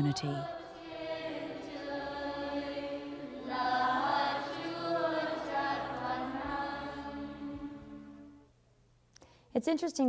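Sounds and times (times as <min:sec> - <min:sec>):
voices singing a chant: 0:00.0 - 0:08.4.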